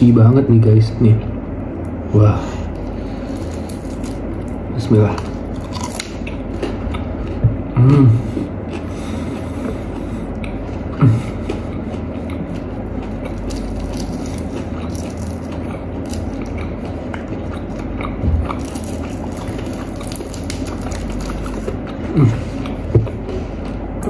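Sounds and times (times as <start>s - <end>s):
chewing crispy fried chicken: 2.6s - 24.0s.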